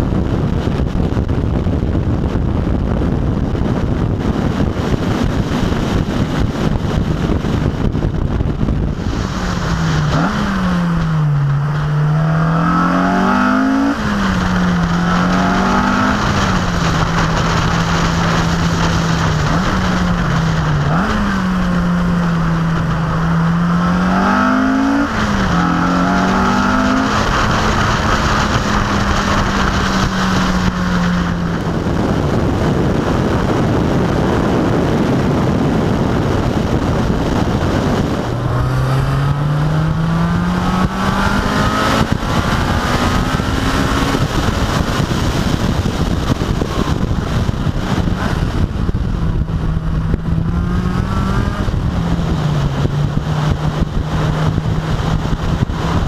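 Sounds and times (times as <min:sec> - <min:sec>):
car engine accelerating: 0:00.0 - 0:56.0
heavy wind rush: 0:00.0 - 0:56.0.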